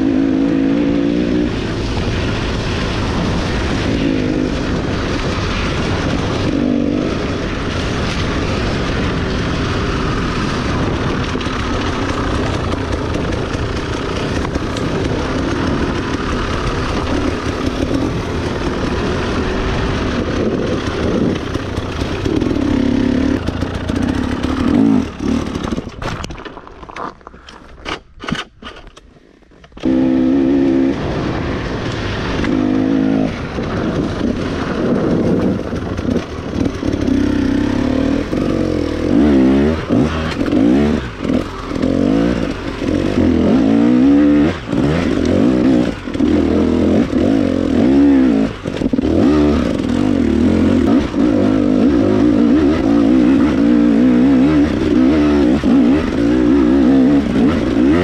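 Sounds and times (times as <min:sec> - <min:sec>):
dirt bike engine revving: 0:00.0 - 0:26.0, 0:29.8 - 0:58.0.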